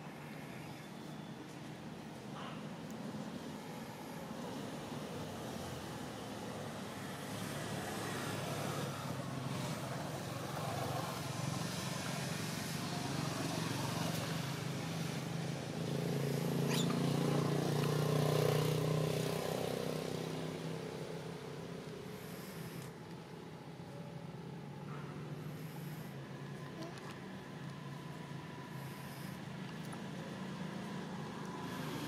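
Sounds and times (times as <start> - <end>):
vehicle engine passing: 3.3 - 23.4, 24.6 - 32.0.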